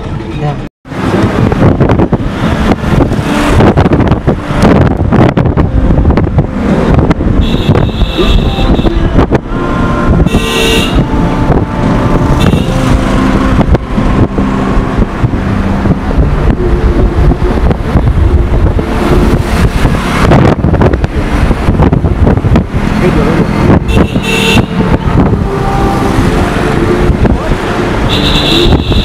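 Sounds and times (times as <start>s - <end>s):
car road and engine noise: 0.0s - 29.0s
wind buffeting microphone: 0.9s - 29.0s.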